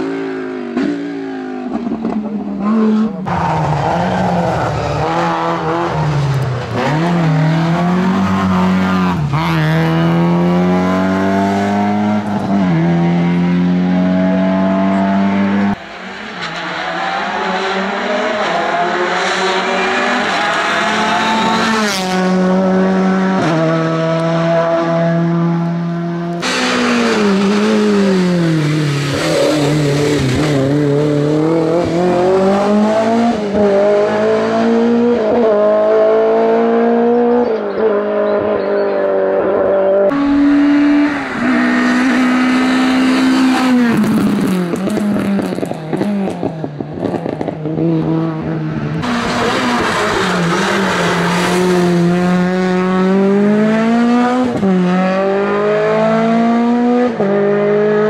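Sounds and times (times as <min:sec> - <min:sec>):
race car engines at full throttle: 0:00.0 - 0:58.0.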